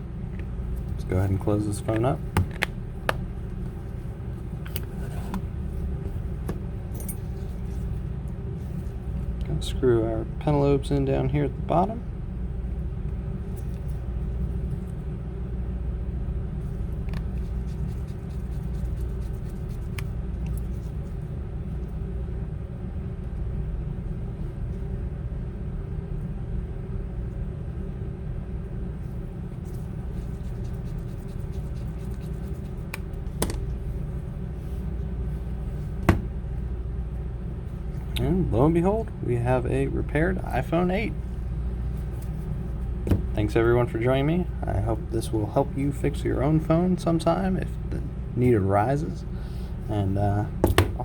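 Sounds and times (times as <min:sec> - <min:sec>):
low background rumble and hum: 0:00.0 - 0:51.0.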